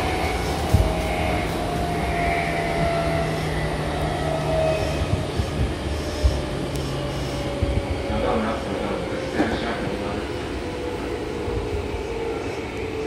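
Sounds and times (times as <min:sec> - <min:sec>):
train motor and wheel hum: 0:00.0 - 0:13.0.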